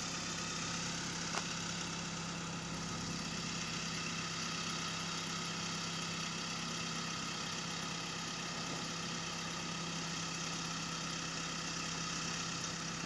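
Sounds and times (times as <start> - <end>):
backhoe diesel engine idling: 0.0 - 13.0.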